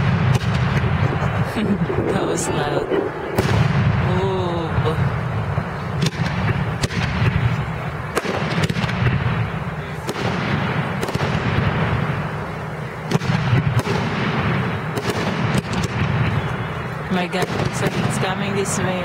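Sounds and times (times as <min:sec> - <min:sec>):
fireworks rumbling and crackling: 0:00.0 - 0:19.0
sharp firework bangs: 0:00.0 - 0:19.0.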